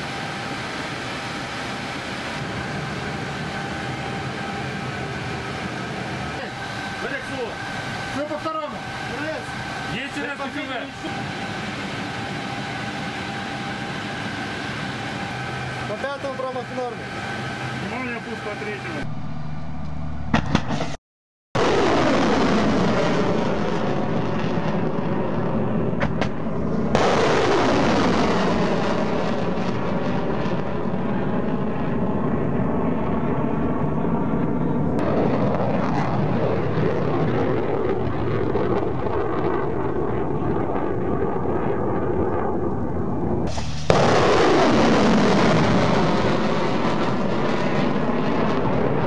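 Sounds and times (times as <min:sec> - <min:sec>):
missile rocket motor rushing: 0:00.0 - 0:21.0, 0:21.6 - 0:32.2, 0:34.9 - 0:49.0.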